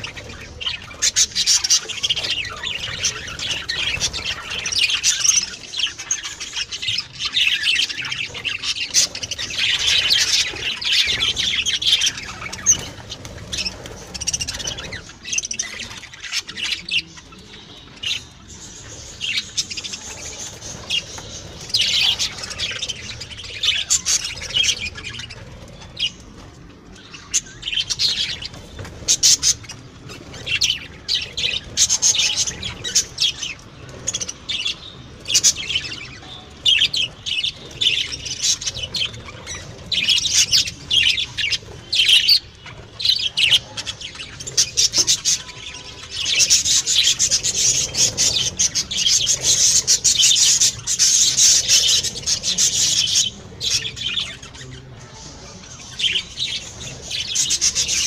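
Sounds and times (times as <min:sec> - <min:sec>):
budgerigars chirping: 0:00.0 - 0:26.4, 0:27.0 - 0:58.0.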